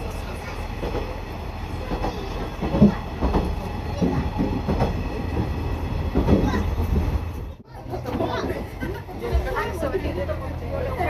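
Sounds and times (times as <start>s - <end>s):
children chattering: 0.0s - 11.0s
train low rumble: 0.0s - 11.0s.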